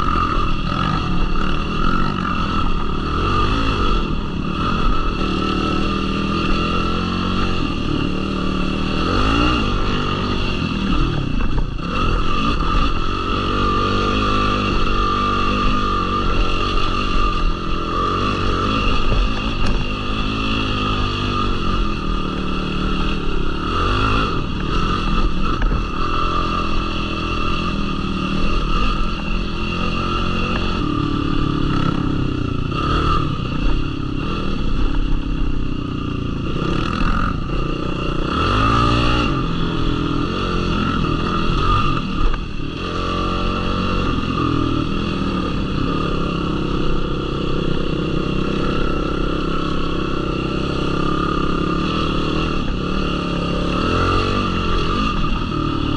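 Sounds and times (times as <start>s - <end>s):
quad engine revving: 0.0s - 55.9s.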